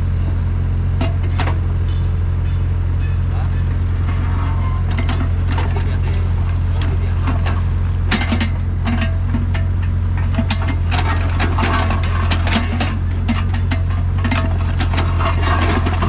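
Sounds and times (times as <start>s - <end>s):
excavator diesel engine running: 0.0s - 16.0s
metallic knocks and clatter: 1.0s - 16.0s.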